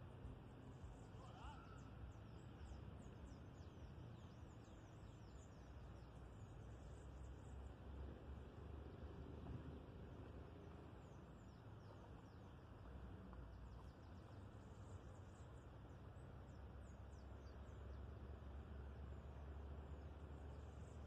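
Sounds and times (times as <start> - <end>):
low steady rumble: 0.0 - 21.0
small birds chirping: 0.2 - 8.0, 9.5 - 21.0.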